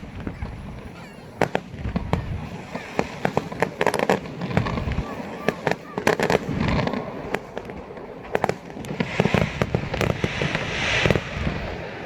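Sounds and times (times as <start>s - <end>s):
fireworks bangs and crackles: 0.0s - 12.0s
fireworks fizzing hiss: 0.0s - 12.0s.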